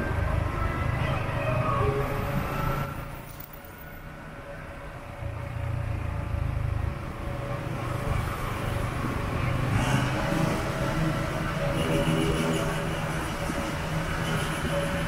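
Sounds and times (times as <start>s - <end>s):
passing cars and scooters: 0.0s - 15.0s.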